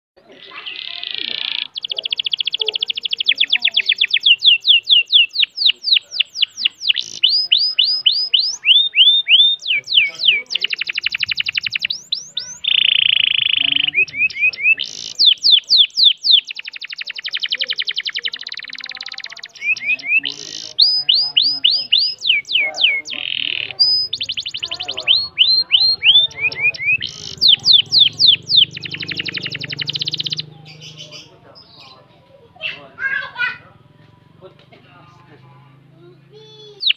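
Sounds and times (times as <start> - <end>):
canary singing trills: 0.2 - 36.9.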